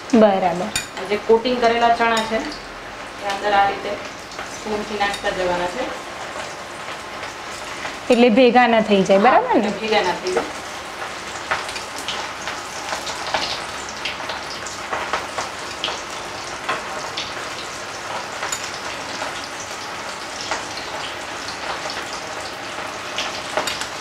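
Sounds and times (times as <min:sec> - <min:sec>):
chickpeas deep-frying in oil: 0:00.0 - 0:24.0.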